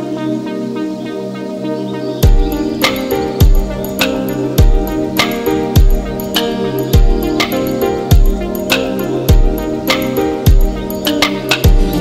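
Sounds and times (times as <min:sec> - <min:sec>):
electronic synthesizer music: 0:00.0 - 0:12.0.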